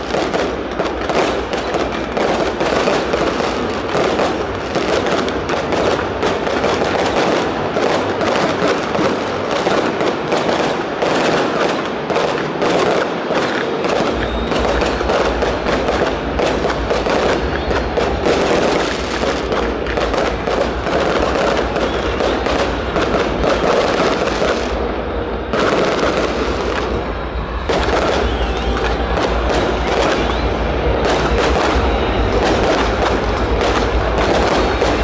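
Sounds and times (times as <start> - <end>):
fireworks cracks and bangs: 0.0 - 35.0.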